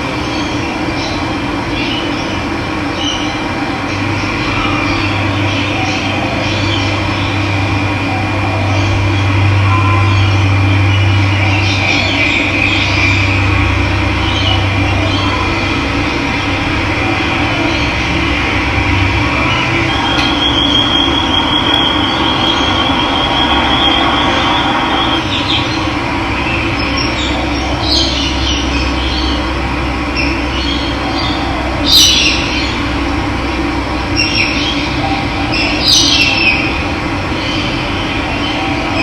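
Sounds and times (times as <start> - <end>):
birds chirping: 0.2 - 33.0, 34.0 - 39.0.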